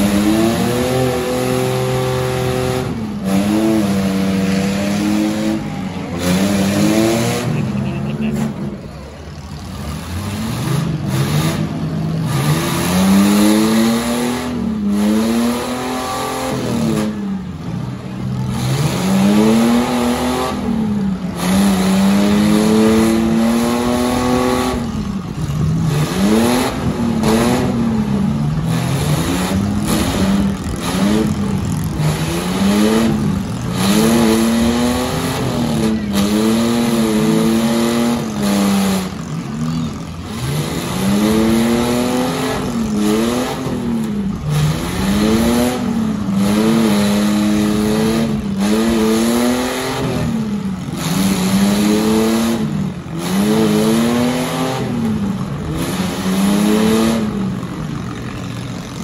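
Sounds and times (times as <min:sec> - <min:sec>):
car engine revving hard: 0:00.0 - 0:58.2.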